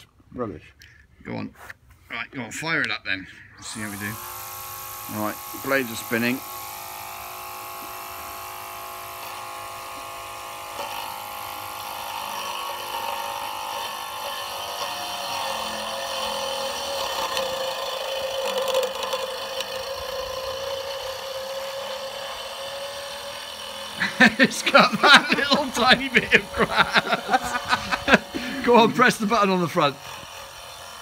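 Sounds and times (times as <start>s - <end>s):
small electric motor whining: 3.6s - 31.0s.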